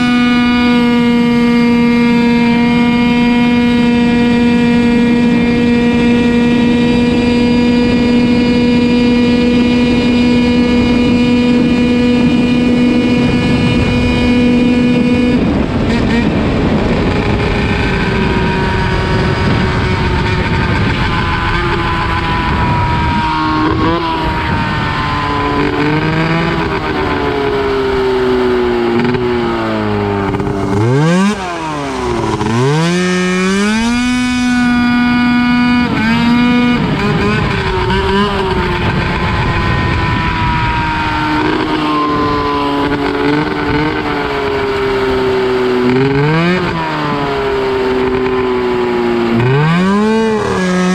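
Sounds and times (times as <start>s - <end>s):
two-stroke engine revving: 0.0s - 50.9s.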